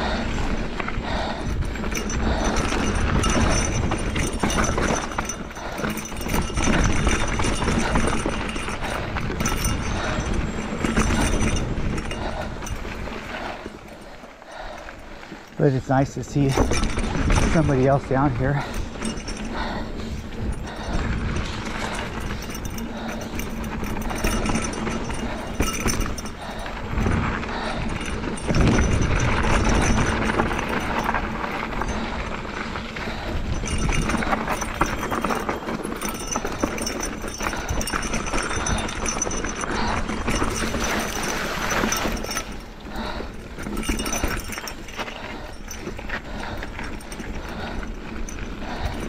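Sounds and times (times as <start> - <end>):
bike rattling and clattering: 0.0 - 49.0.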